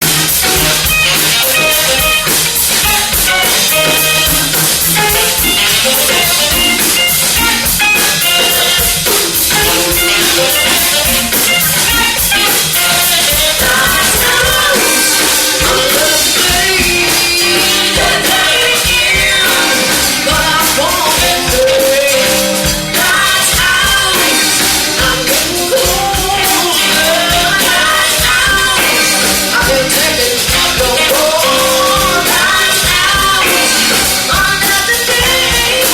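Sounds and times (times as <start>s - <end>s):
drum kit: 0.0s - 35.9s
people singing: 0.0s - 35.9s
soul band playing: 0.0s - 35.9s.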